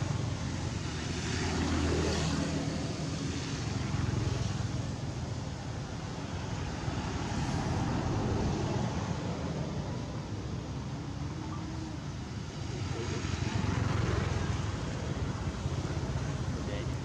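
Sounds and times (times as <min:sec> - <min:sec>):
distant engine drone: 0:00.0 - 0:17.0
outdoor background hiss: 0:00.0 - 0:17.0.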